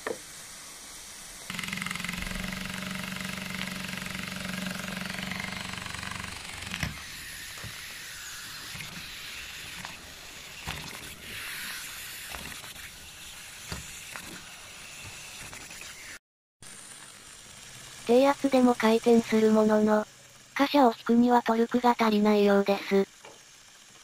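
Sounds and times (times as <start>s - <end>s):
mechanical hum: 0.0s - 24.0s
model steam engine hissing: 0.0s - 24.0s.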